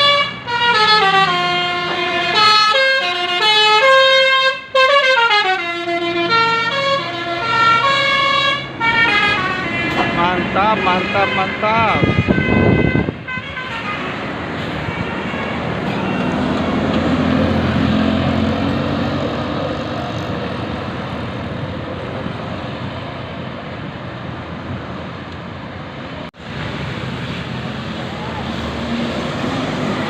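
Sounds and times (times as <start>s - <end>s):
bus passing by: 0.0s - 30.0s.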